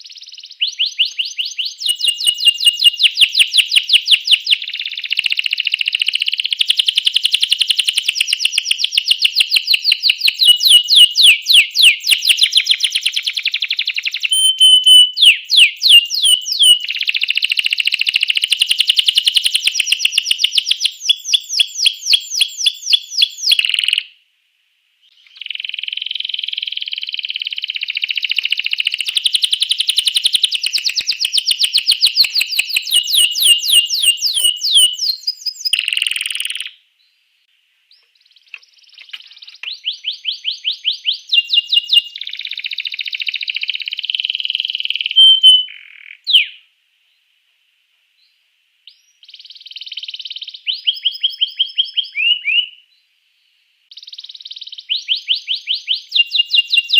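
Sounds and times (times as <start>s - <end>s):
canary singing trills: 0.0s - 24.2s, 25.0s - 36.8s, 37.9s - 46.6s, 48.9s - 53.0s, 53.9s - 56.9s.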